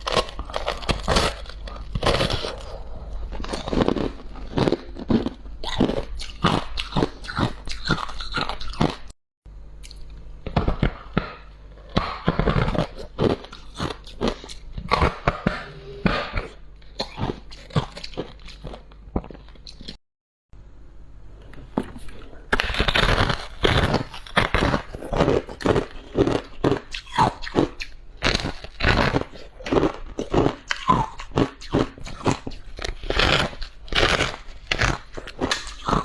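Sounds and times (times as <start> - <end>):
crunching frost being chewed: 0.0 - 9.1, 9.8 - 20.0, 21.4 - 36.0.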